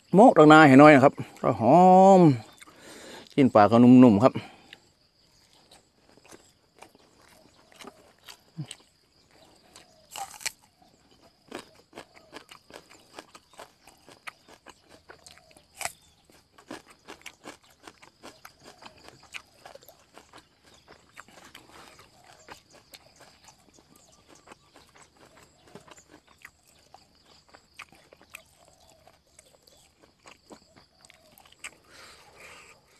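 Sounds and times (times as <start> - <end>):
man chewing and crunching: 0.8 - 32.9.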